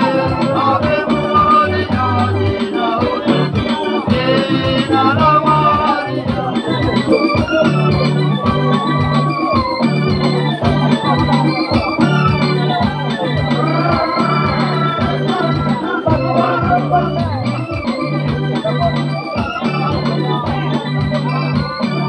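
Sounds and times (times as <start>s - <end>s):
loud music with heavy bass: 0.0s - 22.0s.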